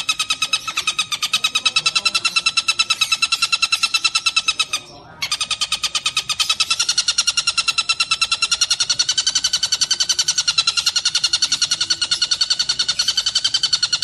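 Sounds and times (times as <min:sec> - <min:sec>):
kingfisher rattling trill: 0:00.0 - 0:14.0.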